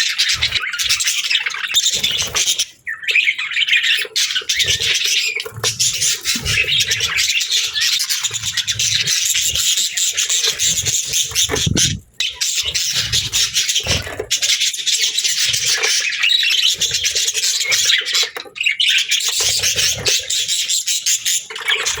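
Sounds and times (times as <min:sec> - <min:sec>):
budgerigars chirping and chattering: 0:00.0 - 0:22.0.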